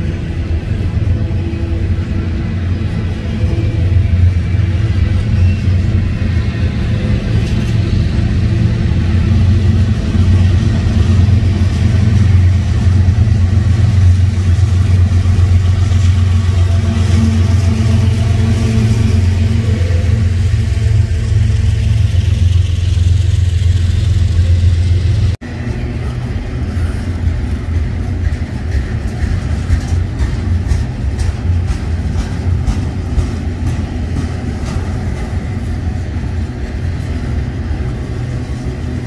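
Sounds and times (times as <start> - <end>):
diesel locomotive engine drone: 0.0 - 39.0
train cars rumbling: 0.0 - 39.0.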